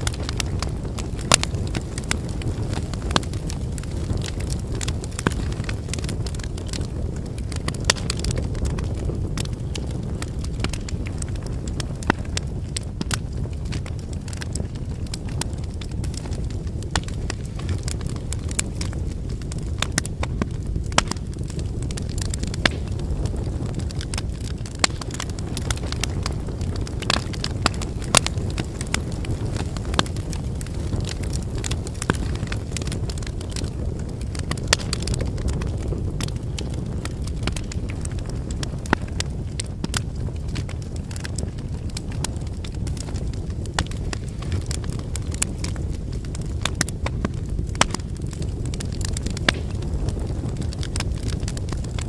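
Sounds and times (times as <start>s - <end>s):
bonfire flame rushing: 0.0s - 52.0s
firewood crackling and popping: 0.0s - 52.0s.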